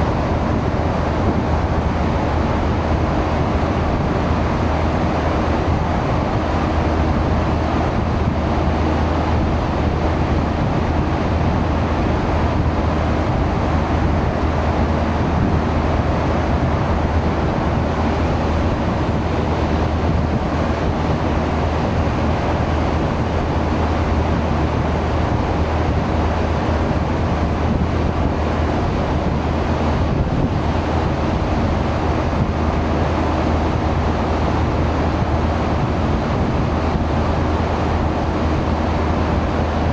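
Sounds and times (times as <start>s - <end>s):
boat engine droning: 0.0s - 39.9s
water rushing along hull: 0.0s - 39.9s
wind buffeting microphone: 0.0s - 39.9s.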